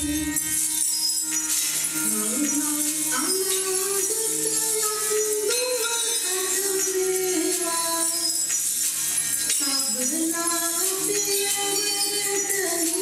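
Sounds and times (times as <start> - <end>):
jingling percussion shimmer: 0.0 - 13.0.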